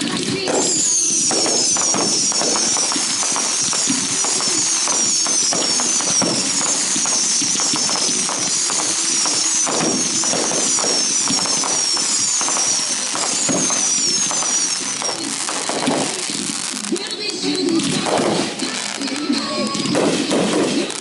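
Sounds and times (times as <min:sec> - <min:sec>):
fireworks crackling and popping: 0:00.0 - 0:21.0
whistling fireworks: 0:00.0 - 0:21.0.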